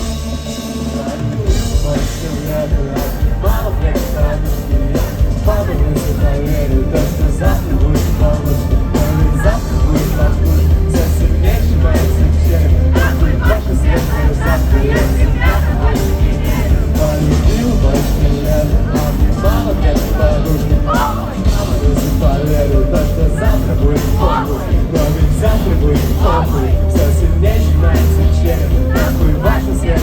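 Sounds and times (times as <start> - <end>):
person singing: 0.0 - 30.0
rock band playing live: 0.0 - 30.0.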